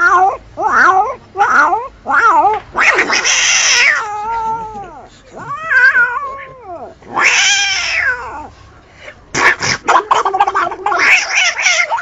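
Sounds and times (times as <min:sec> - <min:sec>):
cat yowling: 0:00.0 - 0:08.5, 0:09.4 - 0:12.0.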